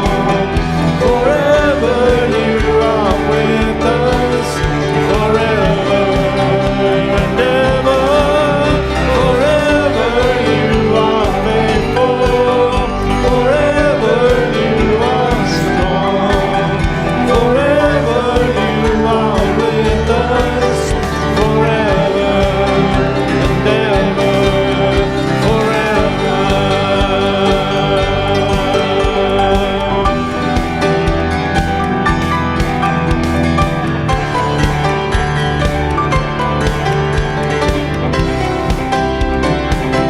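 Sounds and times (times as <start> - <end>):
voices singing a praise song: 0.0 - 35.7
instrumental accompaniment: 0.0 - 40.0.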